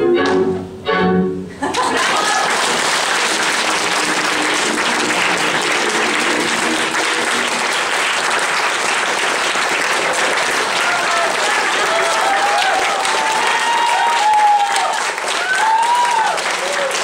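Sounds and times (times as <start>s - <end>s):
crowd applauding: 1.6s - 17.0s.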